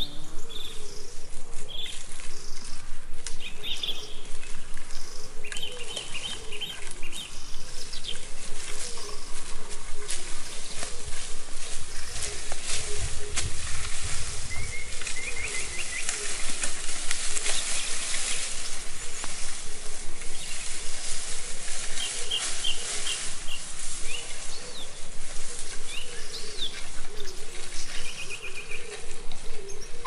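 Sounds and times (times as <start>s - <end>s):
birds chirping: 0.0s - 30.0s
branches dragged over forest floor: 0.0s - 30.0s.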